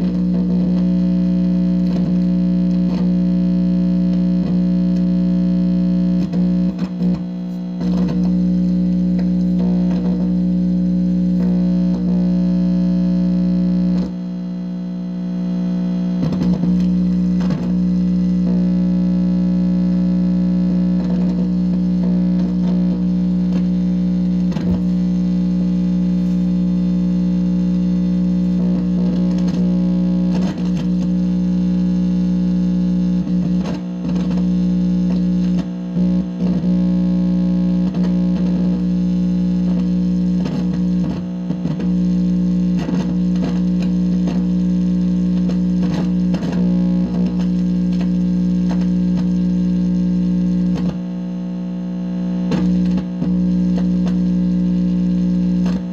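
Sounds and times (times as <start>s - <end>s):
crackles: 0.0s - 55.9s
electronic buzz from speaker: 0.0s - 55.9s.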